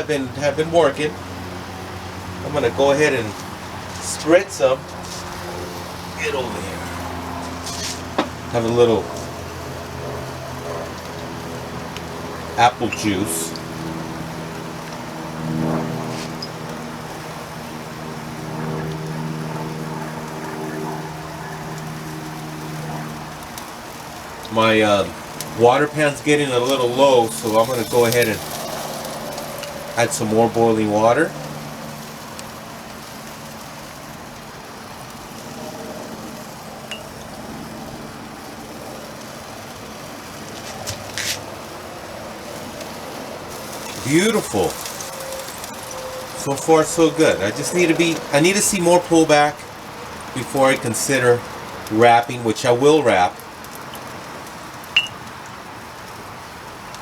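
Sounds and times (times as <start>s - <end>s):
boiling water pouring into pan: 0.0s - 57.0s.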